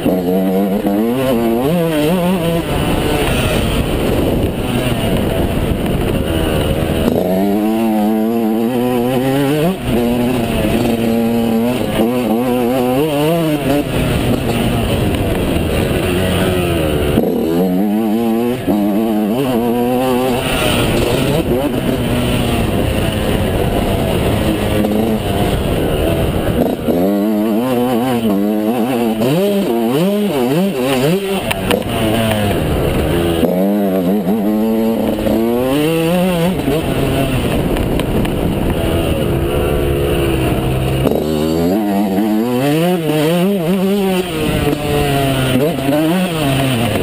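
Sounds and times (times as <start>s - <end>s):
two-stroke motorcycle engine revving: 0.0s - 47.0s.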